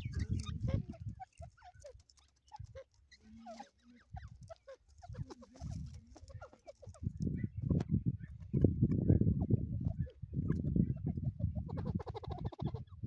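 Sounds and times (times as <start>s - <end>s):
partridges chirping: 0.0s - 13.0s.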